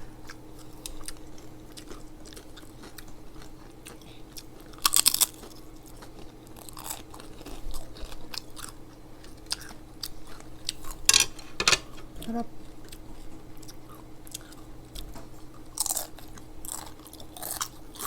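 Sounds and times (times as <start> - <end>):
crunchy food chewing: 0.2 - 10.5, 13.6 - 18.0.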